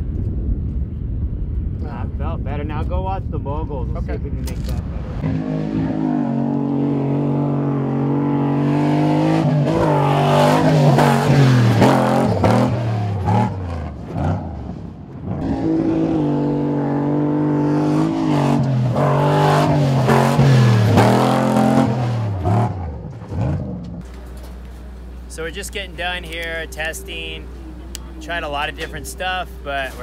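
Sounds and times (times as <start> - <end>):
race truck engine revving: 5.0 - 30.0.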